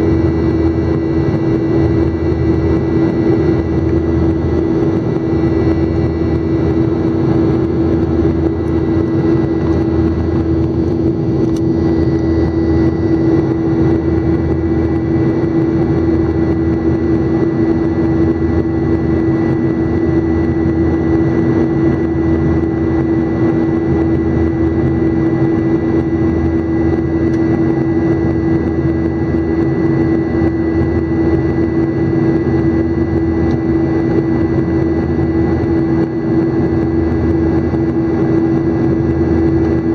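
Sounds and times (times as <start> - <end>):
high constant engine whine: 0.0 - 39.9
jet engines roaring in cabin: 0.0 - 39.9.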